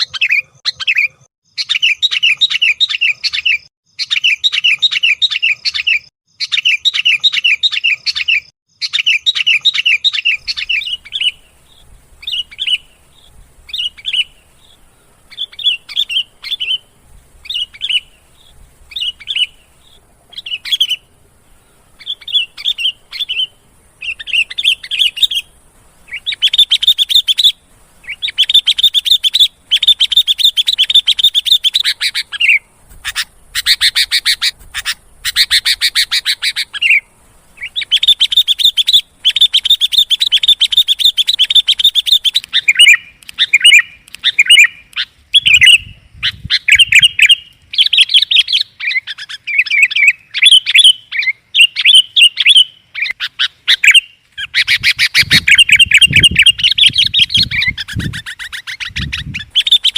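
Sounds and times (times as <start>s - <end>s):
bird whistled phrases: 0.0s - 11.5s, 15.3s - 18.2s, 22.0s - 25.5s, 26.1s - 59.9s
bird chattering calls: 0.0s - 59.9s.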